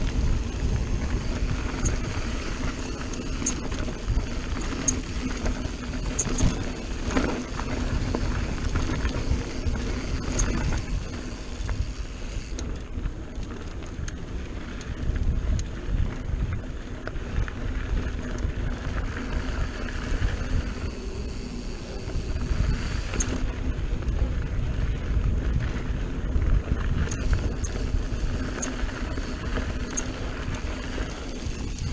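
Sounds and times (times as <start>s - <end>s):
bike clicks and rattles: 0.0s - 31.9s
tyres rumbling on dirt trail: 0.0s - 31.9s
wind buffeting microphone: 0.0s - 31.9s.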